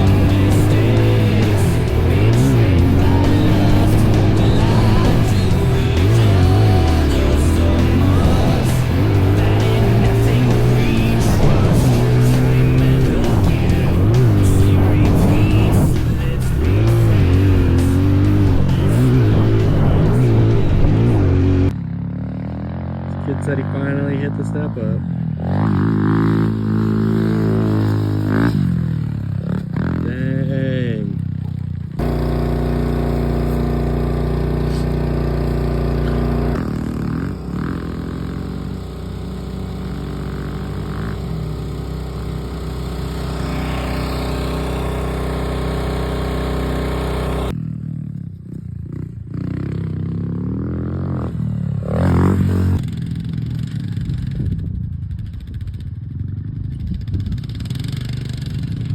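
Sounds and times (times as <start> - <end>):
pit bike engines revving: 0.0 - 54.7.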